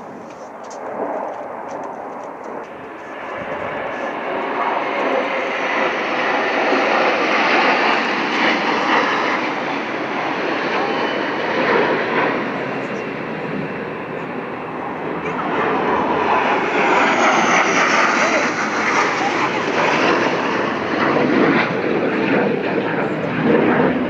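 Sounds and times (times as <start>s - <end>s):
jets flying over: 0.0s - 24.0s.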